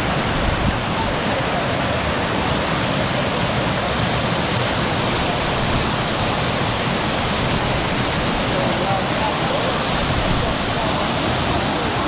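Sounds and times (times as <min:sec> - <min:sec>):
rushing flowing water: 0:00.0 - 0:12.0.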